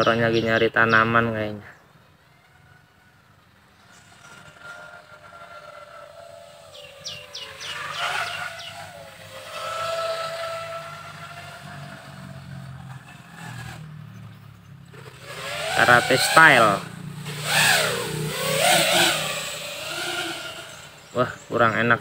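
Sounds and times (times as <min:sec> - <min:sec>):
drone motors whining: 0:02.0 - 0:22.0.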